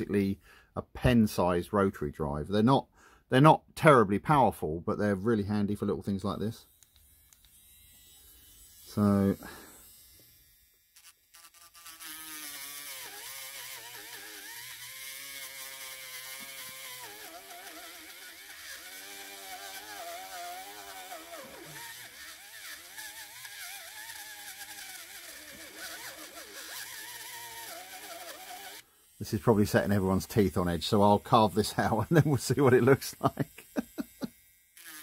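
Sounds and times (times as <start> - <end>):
rotary tool whining grinding wood: 6.2 - 35.0.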